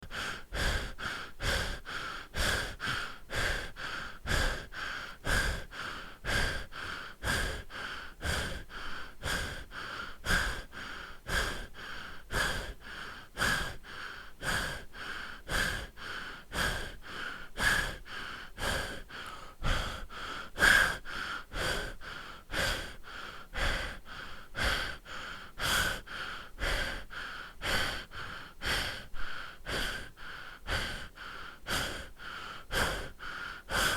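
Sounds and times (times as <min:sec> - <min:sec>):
person breathing heavily: 0:00.0 - 0:33.9.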